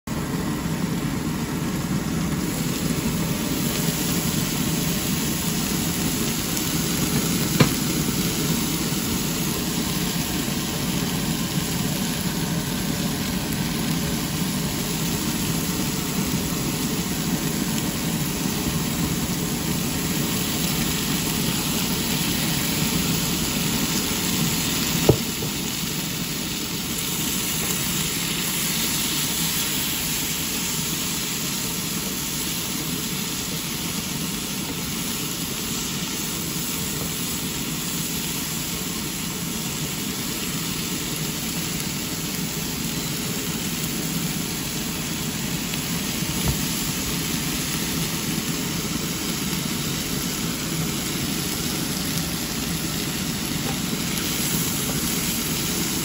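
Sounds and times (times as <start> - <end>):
vegetables sizzling in a pan: 0.1 - 56.0.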